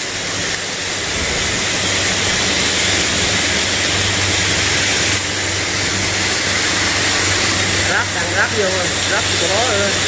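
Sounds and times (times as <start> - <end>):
extraction fans rushing: 0.0 - 10.0
gas cutting torch hissing: 0.0 - 10.0
stick welding crackle: 0.0 - 10.0.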